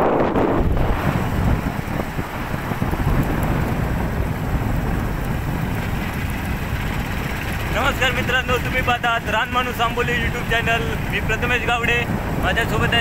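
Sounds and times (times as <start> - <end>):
wind buffeting microphone: 0.0 - 13.0
motorcycle engine running: 0.8 - 11.3.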